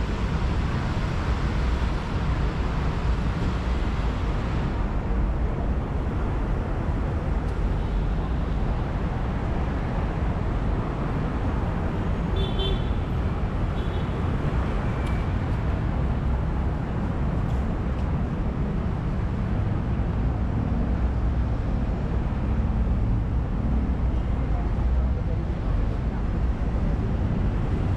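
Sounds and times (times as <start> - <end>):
city traffic noise: 0.0 - 27.9.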